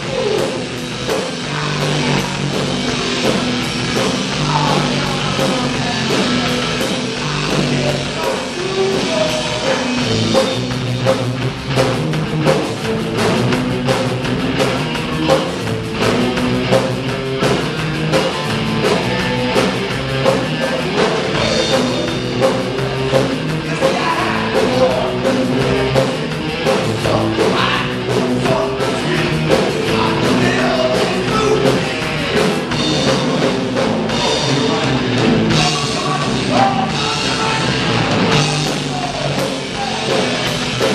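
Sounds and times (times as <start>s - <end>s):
bass guitar: 0.0s - 40.9s
drum kit steady beat: 0.0s - 40.9s
electric guitar: 0.0s - 40.9s.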